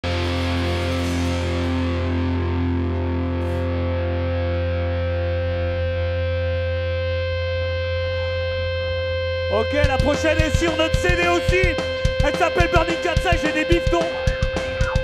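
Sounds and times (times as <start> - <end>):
distorted electric guitar ringing: 0.0 - 15.0
steady low drone: 0.0 - 15.0.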